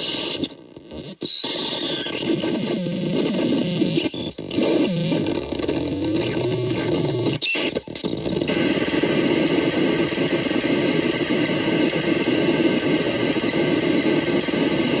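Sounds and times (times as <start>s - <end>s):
harsh electronic noise: 0.0s - 15.0s.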